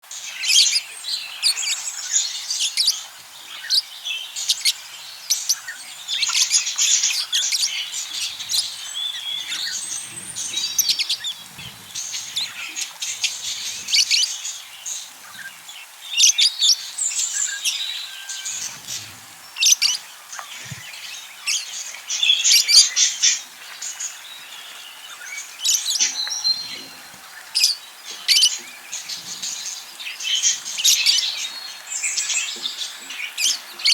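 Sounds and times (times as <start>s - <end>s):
budgerigars chattering: 0.4s - 23.4s, 25.1s - 31.4s.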